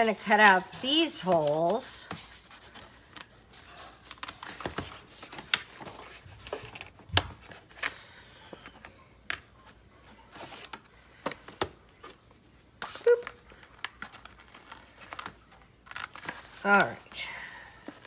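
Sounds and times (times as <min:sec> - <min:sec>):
cardboard rustling: 0:00.2 - 0:17.2.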